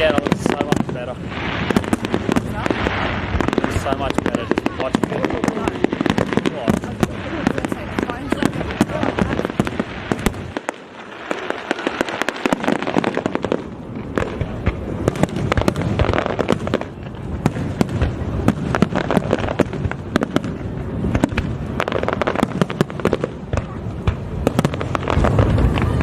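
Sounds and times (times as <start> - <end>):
fireworks cracking and booming: 0.0 - 26.0.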